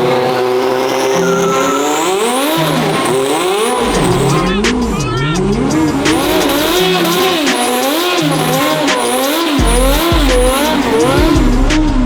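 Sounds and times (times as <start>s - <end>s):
tyres squealing: 0.0s - 11.5s
engine at high revs: 0.0s - 12.0s
turbo whistle: 0.4s - 12.0s.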